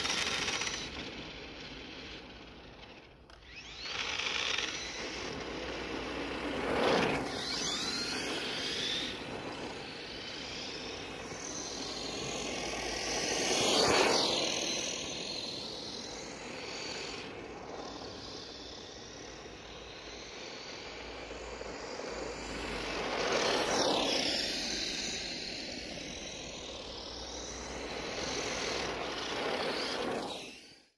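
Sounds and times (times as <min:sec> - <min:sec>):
toy truck motor whine: 0:00.0 - 0:30.9.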